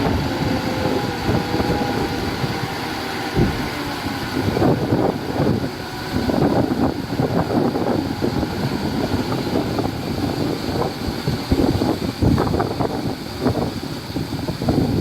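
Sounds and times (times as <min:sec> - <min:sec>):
heavy diesel machinery rumbling: 0:00.0 - 0:15.0
wind buffeting microphone: 0:00.0 - 0:15.0.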